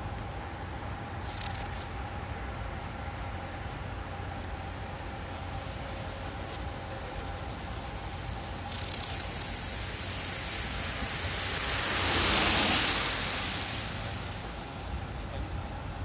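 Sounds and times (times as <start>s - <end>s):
background traffic: 0.0s - 16.0s
car tyres hissing on wet road: 3.0s - 16.0s.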